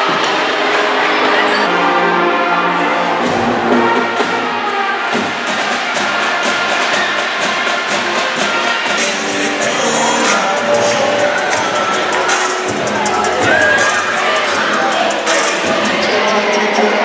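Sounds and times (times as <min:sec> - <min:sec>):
music with brass and beat: 0:00.0 - 0:17.0.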